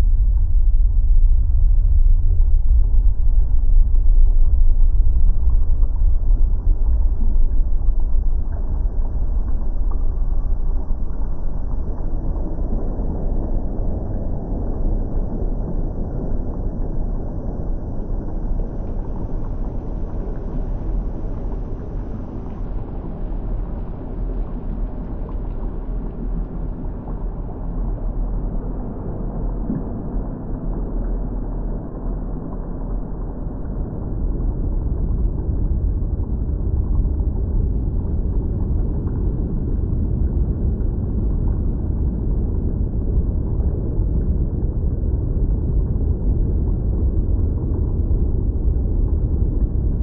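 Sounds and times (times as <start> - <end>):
lava bubbling deep rumble: 0.0 - 50.0.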